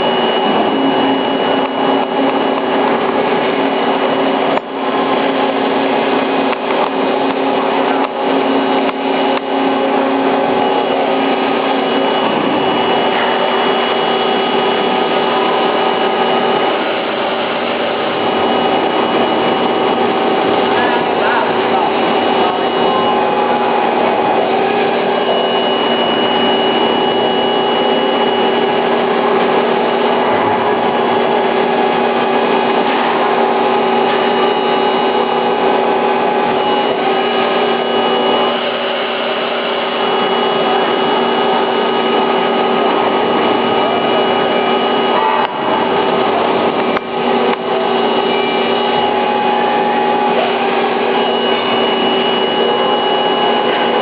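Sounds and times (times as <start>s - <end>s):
lathe machining whine: 0.0s - 54.0s.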